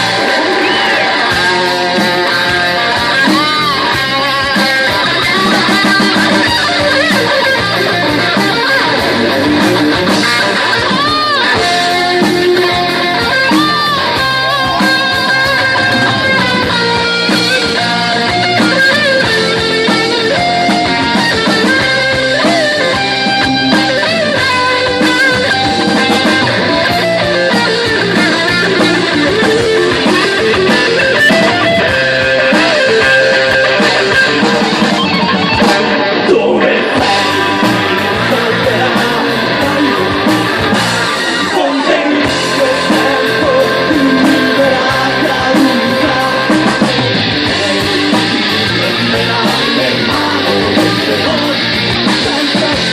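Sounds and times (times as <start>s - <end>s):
bass guitar: 0.0s - 52.9s
drum kit: 0.0s - 52.9s
electric guitar melody: 0.0s - 52.9s.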